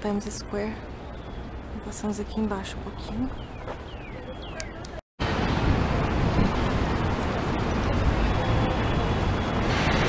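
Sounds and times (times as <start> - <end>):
heavy city street traffic: 0.0 - 10.0.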